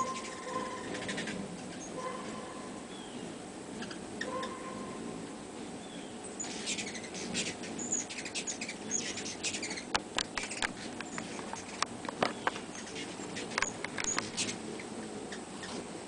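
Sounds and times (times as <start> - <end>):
hummingbird chirps: 0.0 - 15.8.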